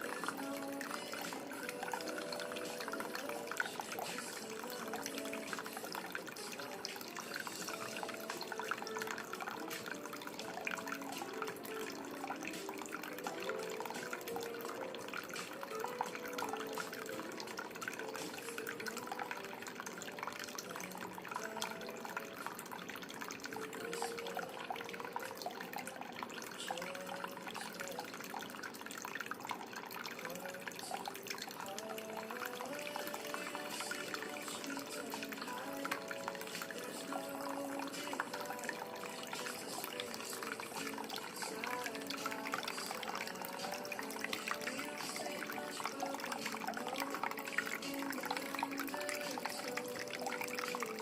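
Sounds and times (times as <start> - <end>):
water dripping and splashing: 0.0 - 51.0.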